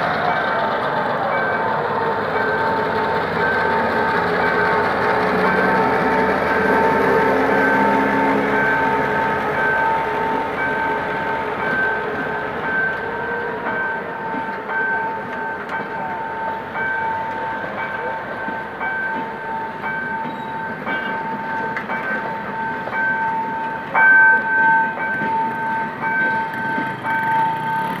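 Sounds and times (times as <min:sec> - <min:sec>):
level-crossing warning signal ringing: 0:00.0 - 0:28.0
train wheels clicking over rail joints: 0:00.0 - 0:28.0.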